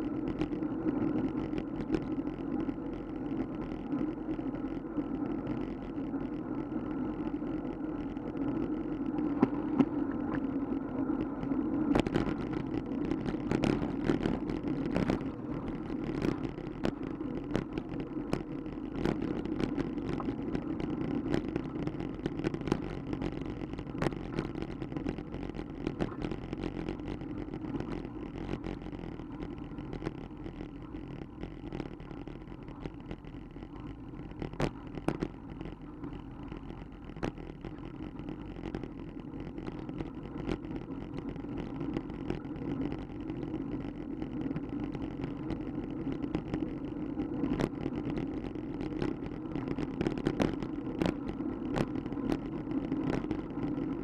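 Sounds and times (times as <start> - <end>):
wheels rolling on concrete: 0.0 - 54.0.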